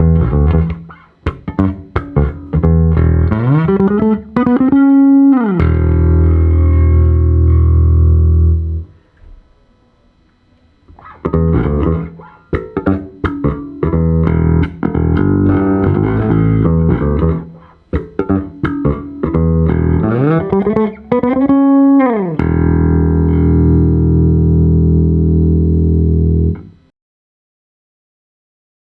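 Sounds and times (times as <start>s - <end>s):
electric bass plucked notes: 0.0s - 9.0s, 10.9s - 26.9s.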